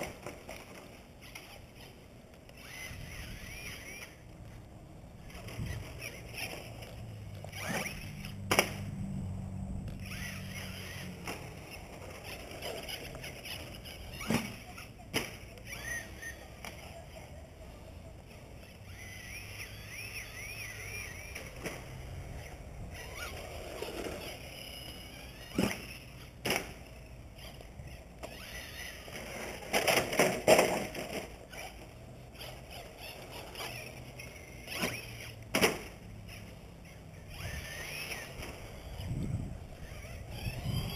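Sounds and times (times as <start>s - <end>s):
electric motor whining: 0.0s - 40.9s.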